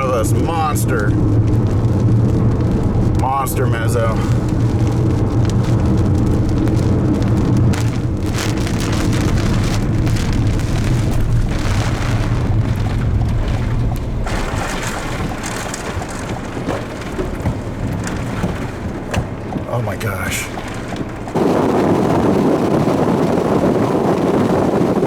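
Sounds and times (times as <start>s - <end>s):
low rumble: 0.0s - 25.0s
rain falling: 0.0s - 25.0s.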